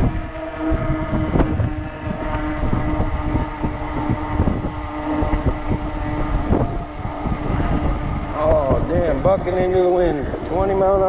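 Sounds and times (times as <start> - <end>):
electric motor hum: 0.0 - 11.0
wind buffeting microphone: 0.0 - 11.0.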